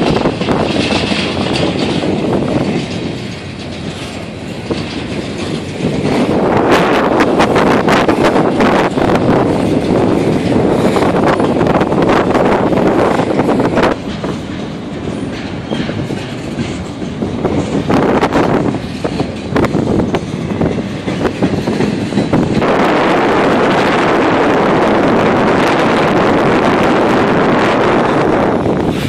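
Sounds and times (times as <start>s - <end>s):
rush of passing train cars: 0.0s - 29.0s
train wheels knocking over rail joints: 0.0s - 29.0s.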